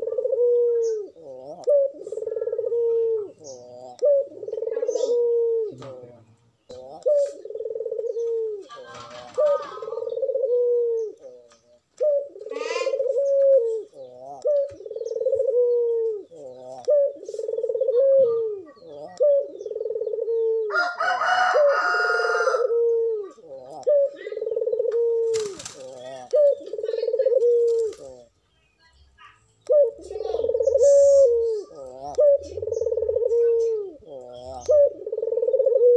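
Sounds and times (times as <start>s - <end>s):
dove cooing: 0.0s - 28.4s, 29.6s - 35.9s.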